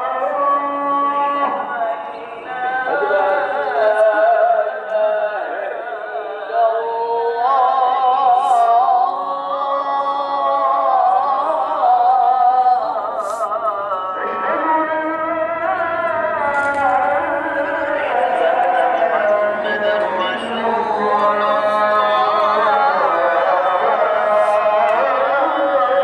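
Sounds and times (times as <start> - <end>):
person singing with vibrato: 0.0 - 26.0.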